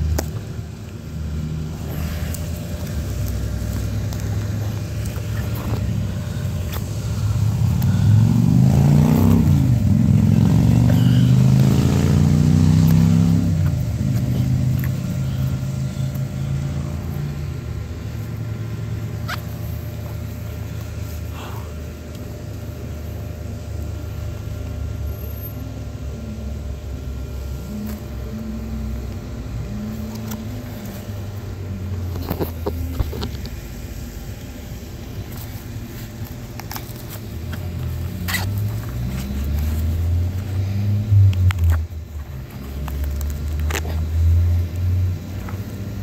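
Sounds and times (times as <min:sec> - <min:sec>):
low engine-like rumble: 0:00.0 - 0:46.0.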